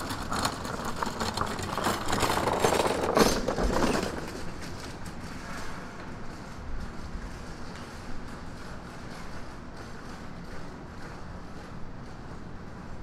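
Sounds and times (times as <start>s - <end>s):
hand cart wheels rattling over bricks: 0.0s - 13.0s.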